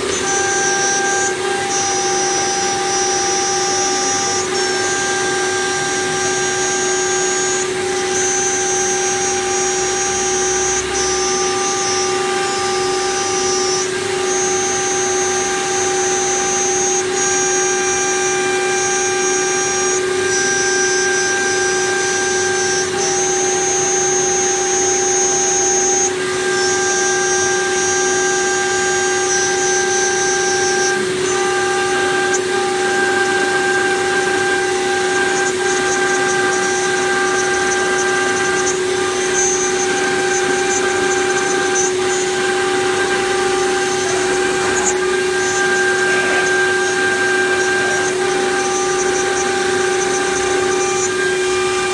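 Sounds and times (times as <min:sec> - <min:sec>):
high-pitched motor whine: 0:00.0 - 0:51.9
machine hum: 0:00.0 - 0:51.9.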